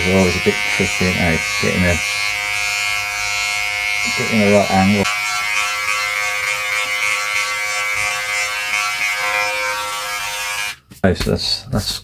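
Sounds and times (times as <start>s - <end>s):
electric body groomer buzzing: 0.0s - 10.8s.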